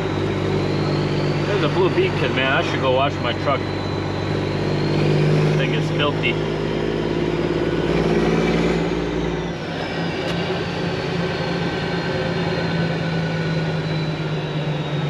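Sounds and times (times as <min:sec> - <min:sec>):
faint high whine: 0:00.0 - 0:15.0
truck diesel engine rumble: 0:00.0 - 0:15.0.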